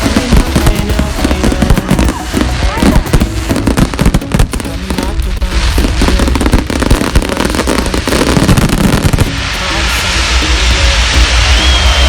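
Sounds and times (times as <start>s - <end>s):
background music: 0.0s - 12.0s
fireworks crackling and banging: 0.0s - 12.0s.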